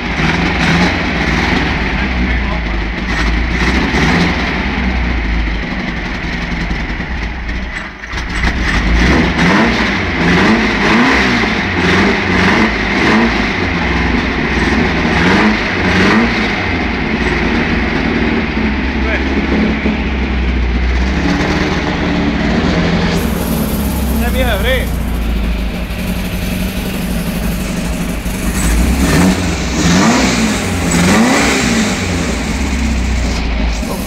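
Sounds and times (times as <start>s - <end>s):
engine idling and revving: 0.0s - 34.0s.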